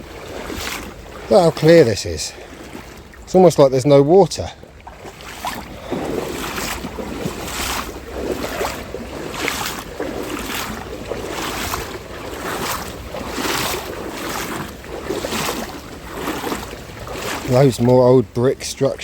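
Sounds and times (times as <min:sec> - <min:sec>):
legs wading through water: 0:00.0 - 0:19.0.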